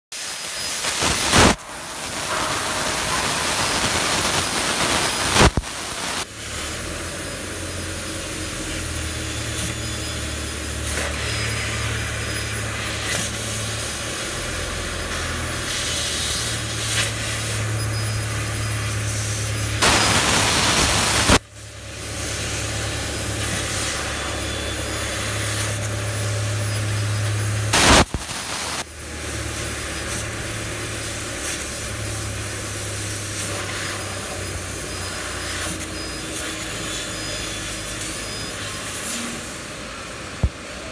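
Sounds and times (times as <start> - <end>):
laser cutter hiss: 0.2 - 40.9.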